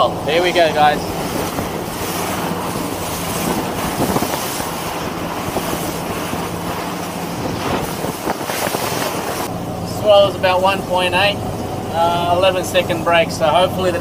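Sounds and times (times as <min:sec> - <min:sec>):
outboard engine drone: 0:00.0 - 0:14.0
water rushing along hull: 0:00.0 - 0:14.0.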